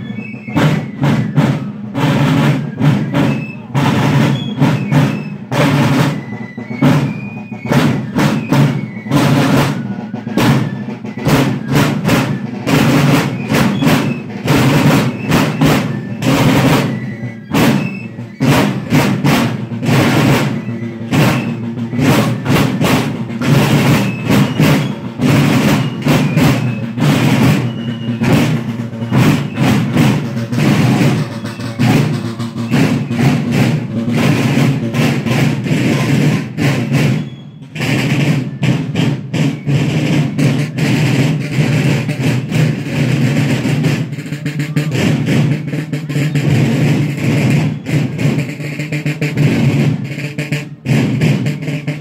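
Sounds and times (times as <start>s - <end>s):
marching drums: 0.0s - 52.0s.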